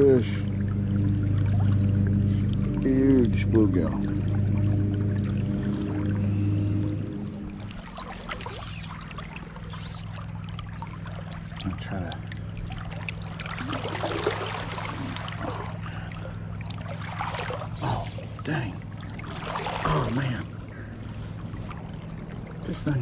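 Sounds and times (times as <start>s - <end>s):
creek water sloshing and trickling: 0.0s - 23.0s.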